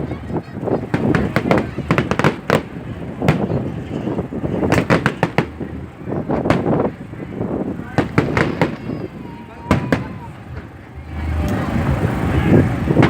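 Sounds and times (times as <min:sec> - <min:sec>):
fireworks sharp cracks: 0:00.0 - 0:10.9
fireworks bangs: 0:00.0 - 0:13.0.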